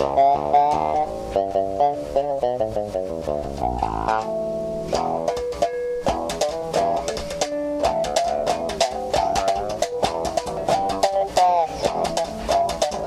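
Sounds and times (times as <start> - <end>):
fretless bass guitar plucked notes: 0.0 - 13.0.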